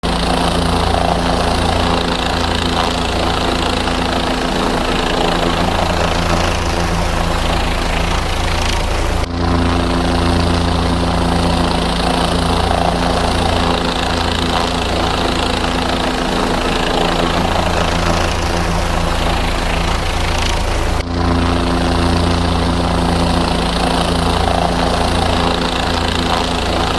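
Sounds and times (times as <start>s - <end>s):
helicopter engine and rotor: 0.0s - 26.9s.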